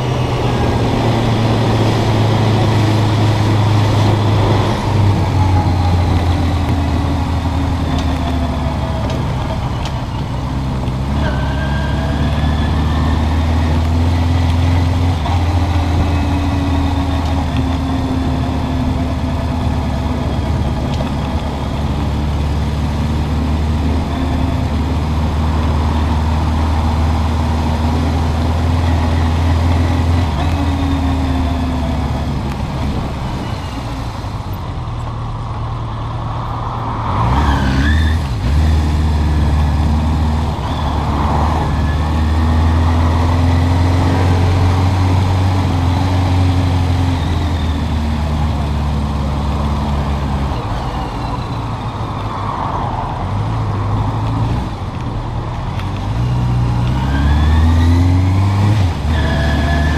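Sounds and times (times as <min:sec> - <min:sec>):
motorcycle engine revving: 0:00.0 - 0:34.5, 0:37.2 - 0:52.3, 0:52.9 - 0:59.9.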